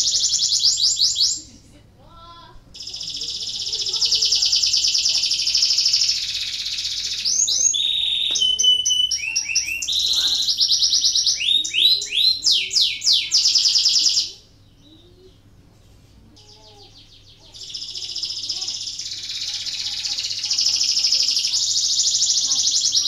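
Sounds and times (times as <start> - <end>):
canary singing trills: 0.0 - 1.6, 2.7 - 23.0.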